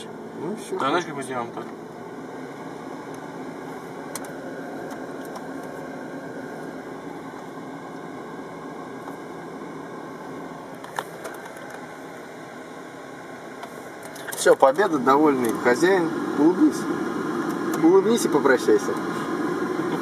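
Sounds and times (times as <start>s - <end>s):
air rushing through vents: 1.8s - 20.0s.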